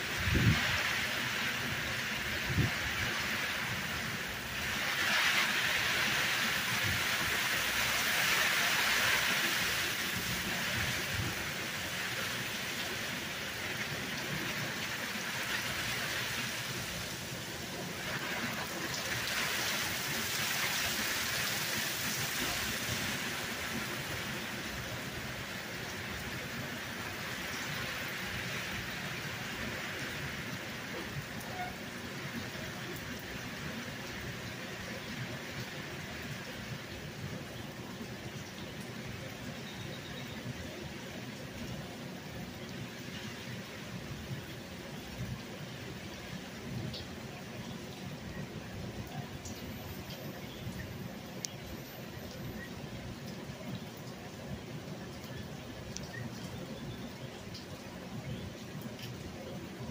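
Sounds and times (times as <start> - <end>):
steady rain on street: 0.0 - 59.9.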